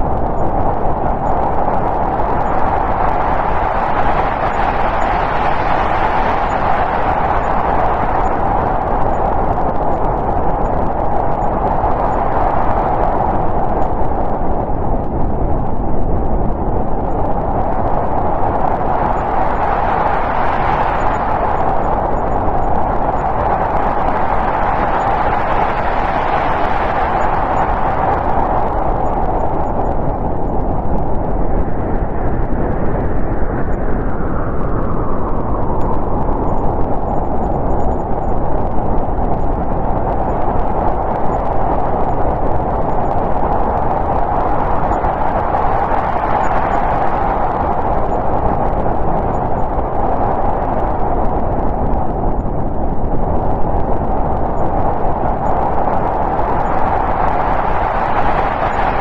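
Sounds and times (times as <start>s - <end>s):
strong wind gusting: 0.0s - 59.0s.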